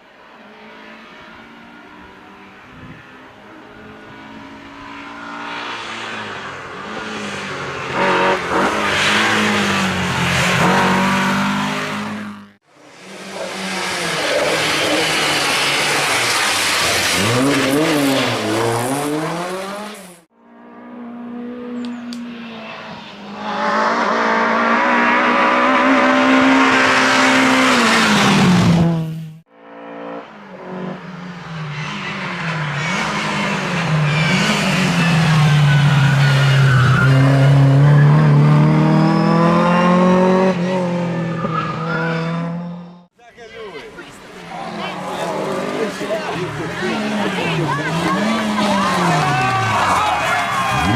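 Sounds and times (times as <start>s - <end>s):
rally car engines revving: 0.2s - 43.1s, 43.8s - 50.9s.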